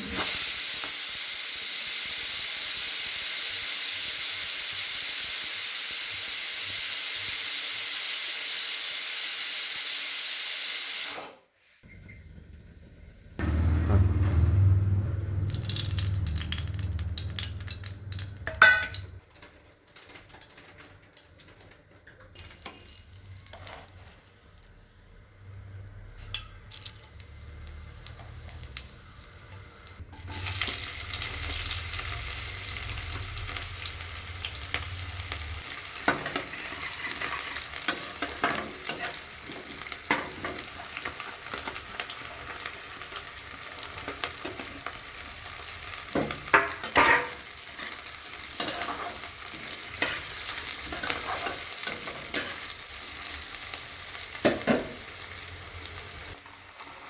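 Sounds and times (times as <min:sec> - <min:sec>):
food sizzling in a pan: 0:00.0 - 0:11.4, 0:22.4 - 0:57.0.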